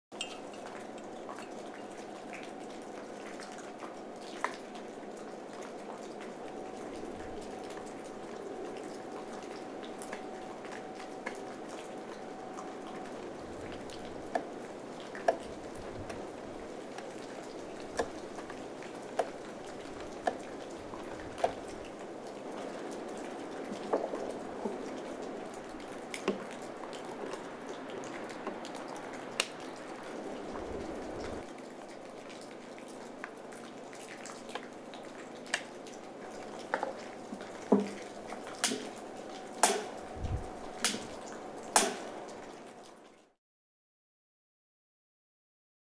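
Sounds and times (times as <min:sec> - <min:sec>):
steady background hiss: 0:00.2 - 0:43.0.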